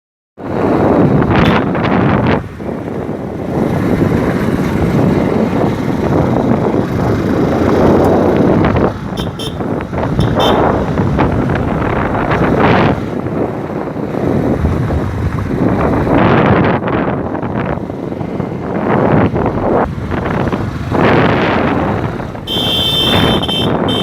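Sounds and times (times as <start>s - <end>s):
road and vehicle noise: 0.4s - 24.0s
wind buffeting microphone: 0.4s - 24.0s.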